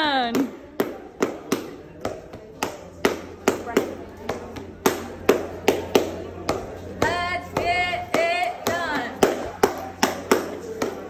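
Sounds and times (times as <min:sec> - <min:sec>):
dance beat with clap-like hits: 0:00.3 - 0:11.0.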